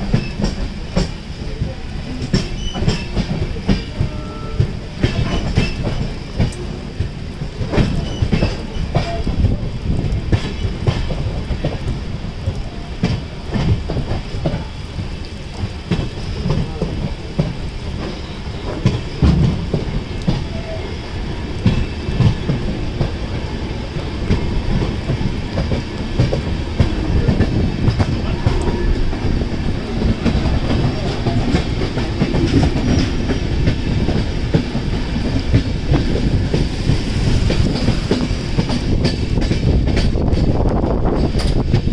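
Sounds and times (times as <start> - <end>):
train rumble: 0.0 - 41.9.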